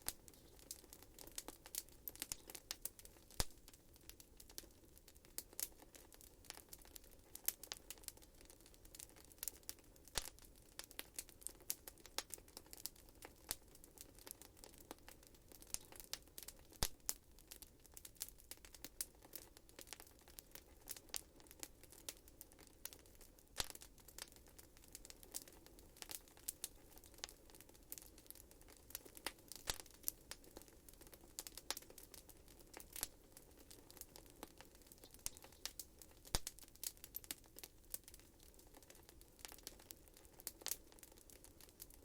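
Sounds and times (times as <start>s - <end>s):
fireplace fire crackling: 0.0s - 42.0s.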